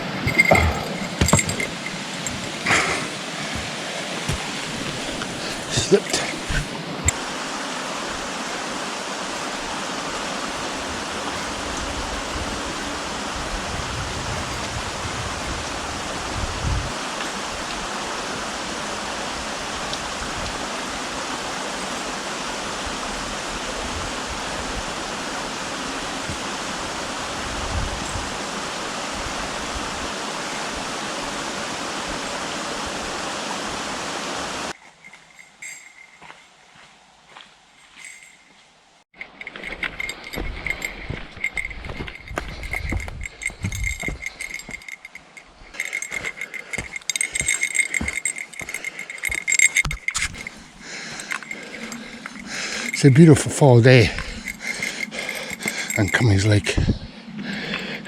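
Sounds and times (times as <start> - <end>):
creek water rushing: 0.0 - 34.8, 42.6 - 58.0.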